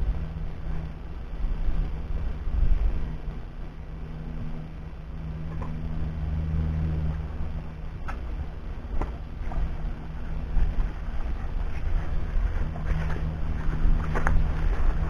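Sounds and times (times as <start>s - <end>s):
wind rumbling on microphone: 0.0s - 4.8s, 5.4s - 15.0s
low mechanical hum: 0.0s - 15.0s.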